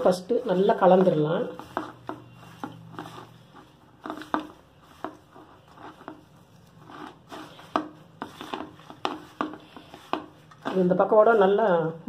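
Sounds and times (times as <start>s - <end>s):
hand mixing food in metal bowl: 0.0s - 12.0s.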